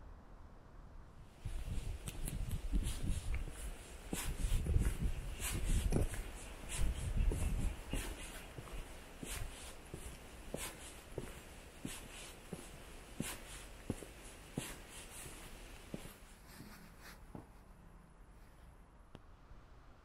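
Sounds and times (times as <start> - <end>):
footsteps on stone path: 1.5 - 17.5.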